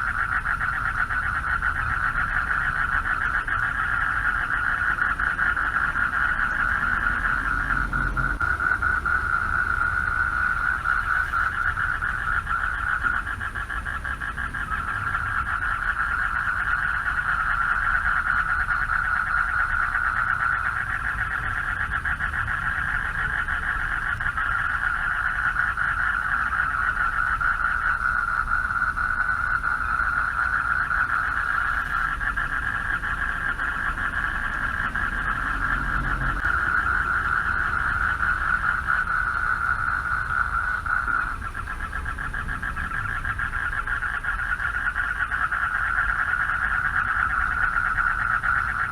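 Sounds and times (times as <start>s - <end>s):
frogs trilling chorus: 0.0s - 48.9s
low steady rumble: 0.0s - 48.9s.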